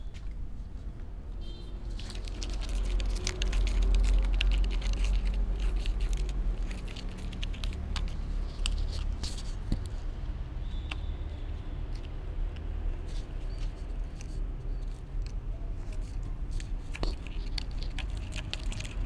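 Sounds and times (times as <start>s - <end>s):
kitten claws scratching: 1.8s - 10.2s, 11.8s - 19.0s.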